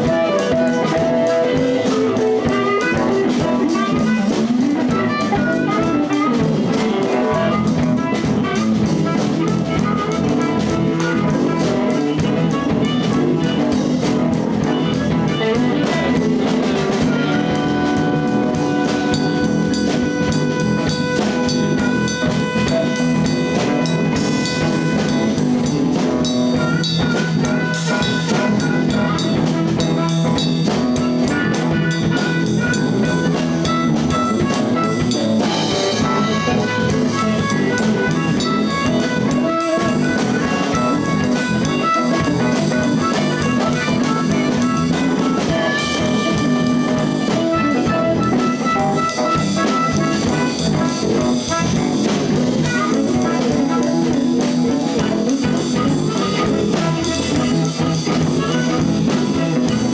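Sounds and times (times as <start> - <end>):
fast cymbal beat: 0.0 - 59.9
live blues band playing: 0.0 - 59.9.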